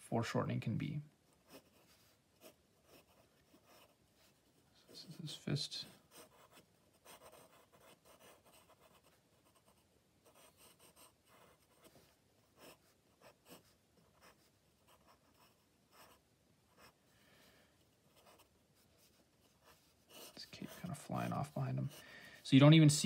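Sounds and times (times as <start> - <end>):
pencil scratching on paper: 1.3 - 5.2, 5.9 - 17.0, 17.8 - 22.4.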